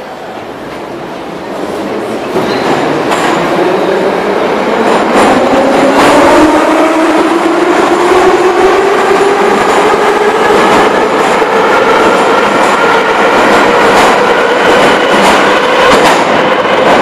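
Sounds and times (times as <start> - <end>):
subway train running noise: 0.0 - 17.0.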